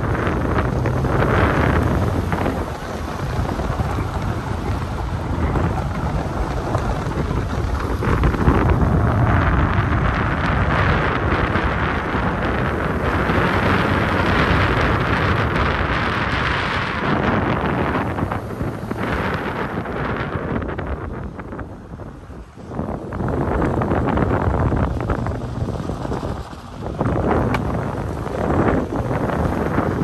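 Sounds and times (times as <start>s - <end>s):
vehicle low rumble: 0.0s - 30.0s
wind buffeting microphone: 0.0s - 30.0s.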